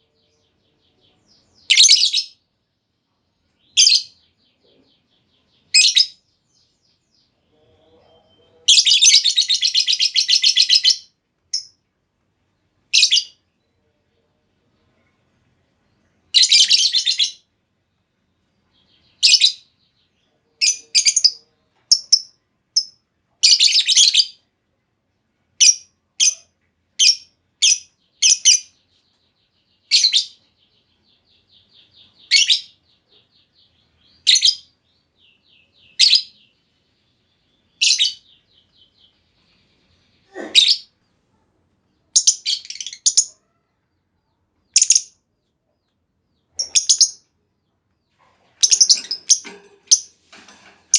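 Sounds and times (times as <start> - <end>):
bird chirping: 0.0 - 24.5, 25.6 - 50.9.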